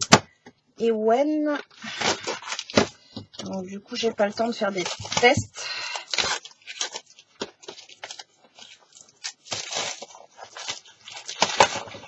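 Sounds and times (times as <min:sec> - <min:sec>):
packaging rustling and crinkling: 0:01.5 - 0:12.0.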